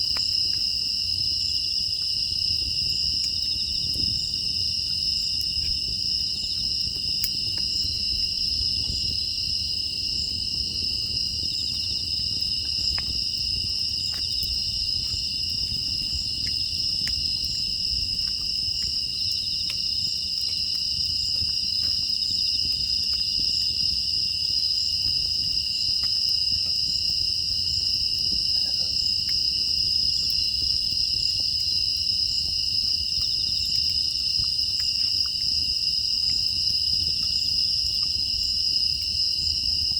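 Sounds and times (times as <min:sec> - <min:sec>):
crickets trilling: 0:00.0 - 0:39.9
wood fire crackling: 0:00.0 - 0:39.9.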